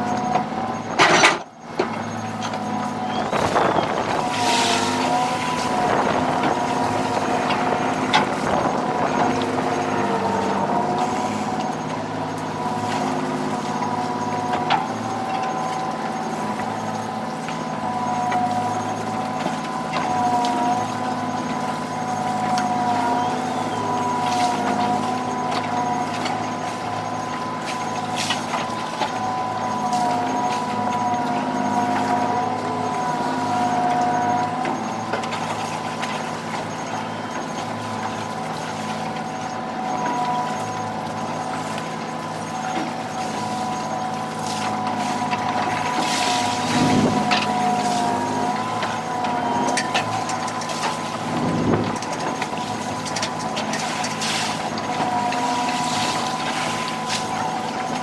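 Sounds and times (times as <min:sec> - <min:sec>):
low engine drone: 0:00.0 - 0:58.0
two-note machinery whine: 0:00.0 - 0:58.0.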